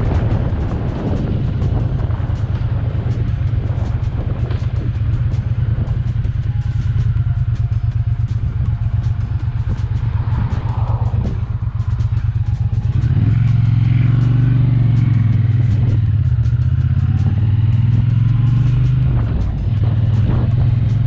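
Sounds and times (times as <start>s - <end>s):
motorcycle engine pulling away: 0.0s - 21.0s.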